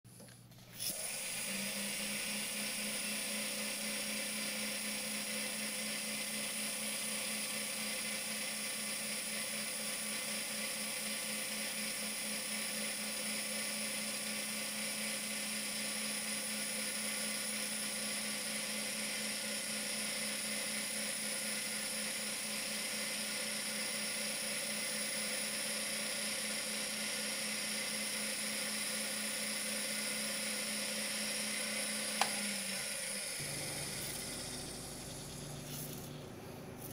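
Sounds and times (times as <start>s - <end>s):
wood lathe motor hum and whine: 0.9s - 36.8s.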